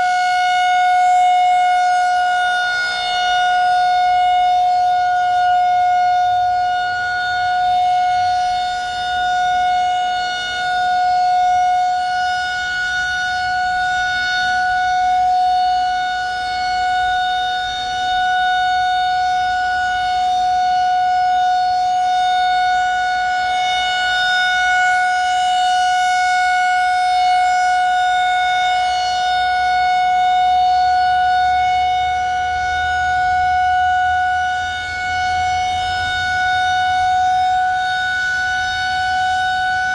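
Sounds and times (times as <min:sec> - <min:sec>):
warning siren long held tone: 0:00.0 - 0:39.9.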